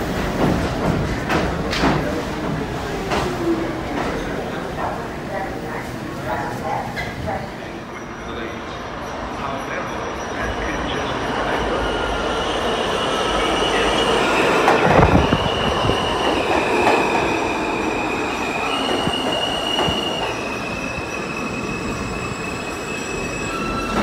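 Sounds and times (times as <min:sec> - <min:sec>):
train rumble: 0:00.0 - 0:24.0
high train squeals: 0:02.0 - 0:24.0.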